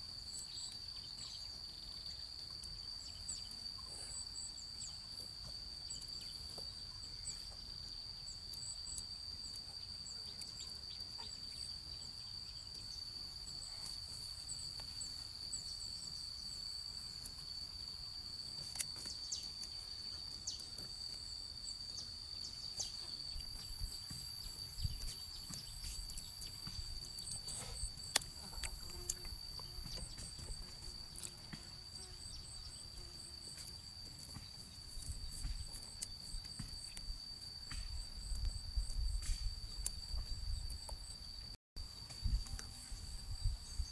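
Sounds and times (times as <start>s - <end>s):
cricket trill: 0.0s - 43.9s.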